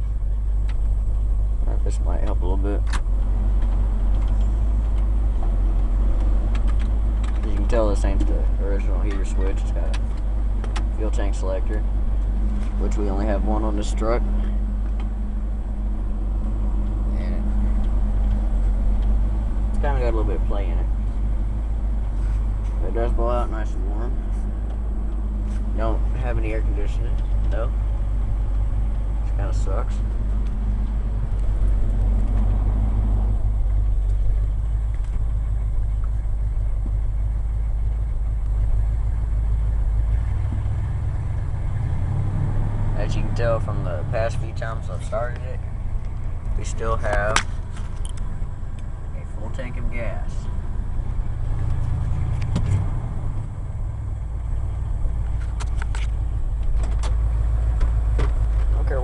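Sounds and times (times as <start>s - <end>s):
engine idling low rumble: 0.0s - 59.0s.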